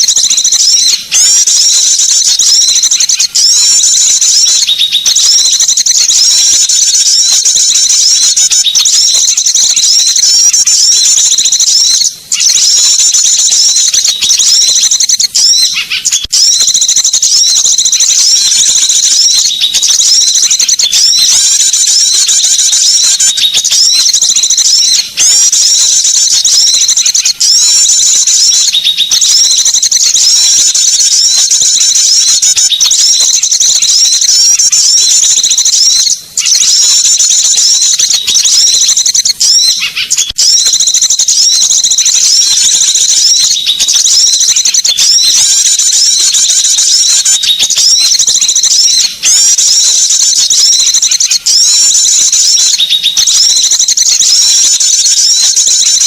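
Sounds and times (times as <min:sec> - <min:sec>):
high-pitched bird chirps and trills: 0:00.0 - 0:56.0.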